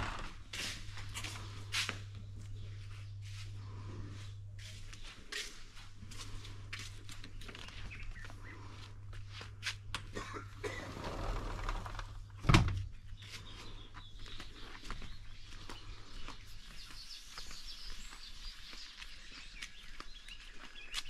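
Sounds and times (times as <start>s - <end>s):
footsteps on outdoor path: 0.0s - 10.3s, 12.9s - 21.0s
birds chirping: 0.0s - 21.0s.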